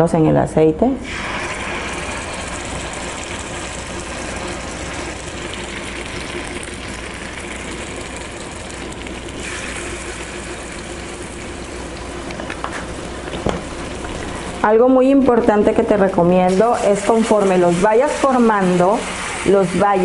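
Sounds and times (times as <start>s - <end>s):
oil sizzling in frying pan: 1.1s - 15.9s, 16.5s - 20.0s.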